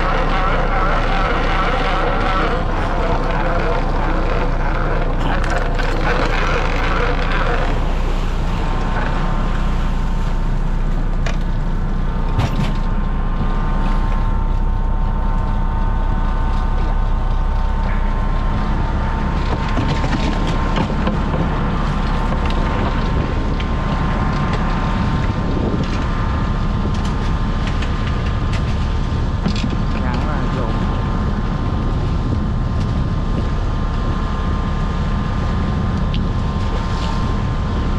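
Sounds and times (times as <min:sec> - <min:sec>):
boat engine running: 0:00.0 - 0:37.9
steady whine: 0:00.0 - 0:37.9.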